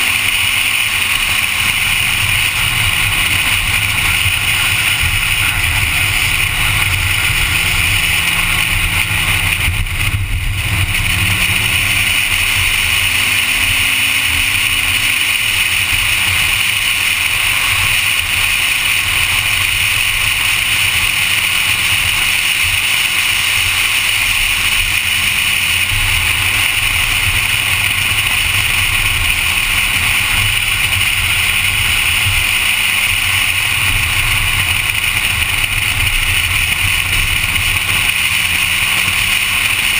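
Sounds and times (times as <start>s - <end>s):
car engine revving: 0.0s - 39.9s
wind and road noise roar: 0.0s - 39.9s.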